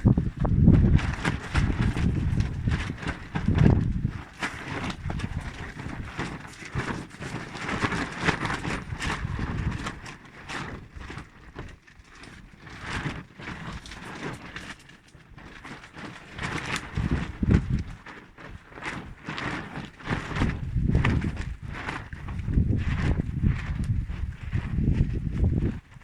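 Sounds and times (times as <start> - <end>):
wind buffeting microphone: 0.0 - 11.7, 15.4 - 26.0.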